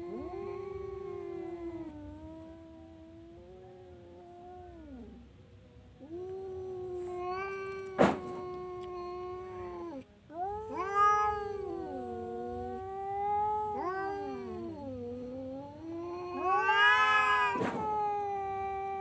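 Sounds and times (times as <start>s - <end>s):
cat yowling: 0.0s - 5.2s, 6.0s - 19.0s.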